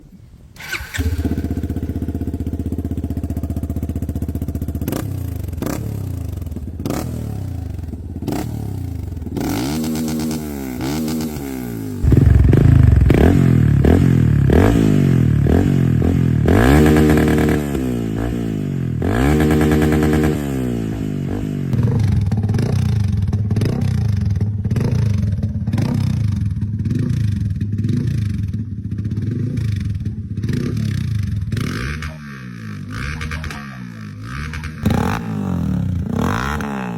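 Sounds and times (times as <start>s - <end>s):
motorcycle engine idling and revving: 0.6s - 36.9s.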